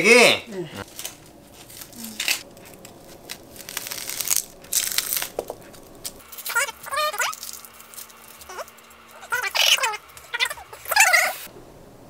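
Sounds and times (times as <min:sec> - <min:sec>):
onion skin crackling and tearing: 0:00.8 - 0:11.4.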